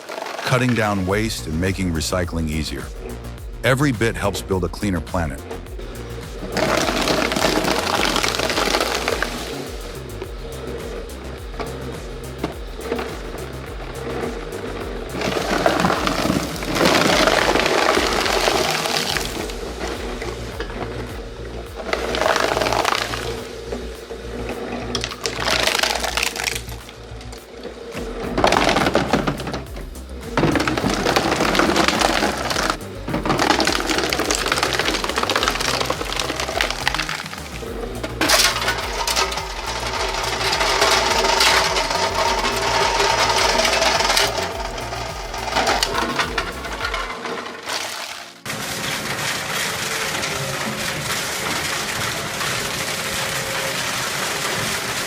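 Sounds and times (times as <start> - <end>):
background music with bass: 0.5 - 47.4
industrial shredder grinding: 5.6 - 55.0.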